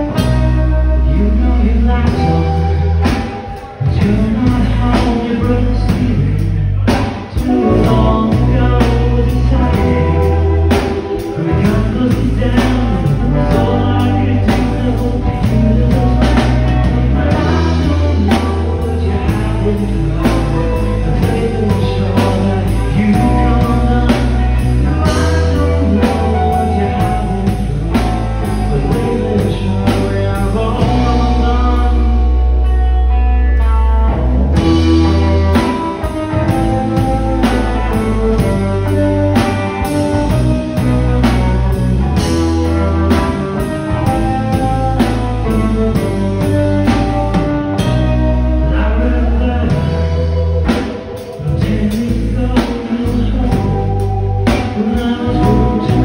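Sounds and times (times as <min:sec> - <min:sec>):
person singing: 0:00.0 - 0:56.0
rock band playing: 0:00.0 - 0:56.0.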